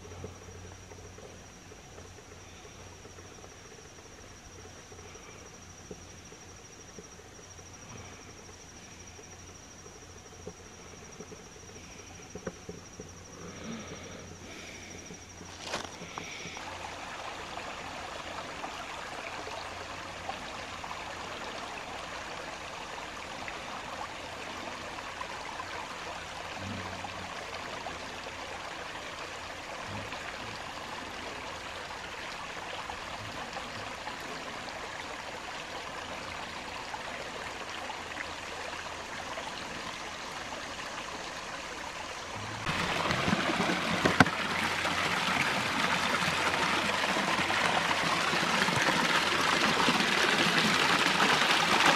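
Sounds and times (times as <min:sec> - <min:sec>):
creek water running over stones: 0:00.0 - 0:51.9.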